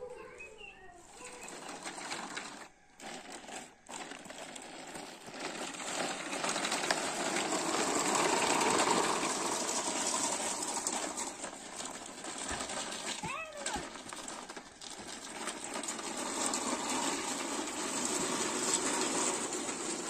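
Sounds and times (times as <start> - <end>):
toy truck wheels crunching on gravel: 0.2 - 20.0.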